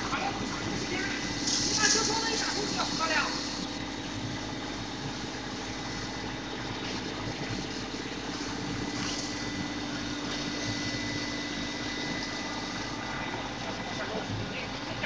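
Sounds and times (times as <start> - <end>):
stretch wrapper mechanical hum: 0.0 - 15.0.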